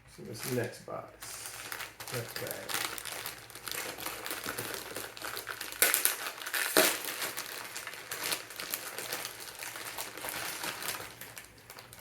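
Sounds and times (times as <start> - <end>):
plastic bag crinkling: 0.3 - 12.0.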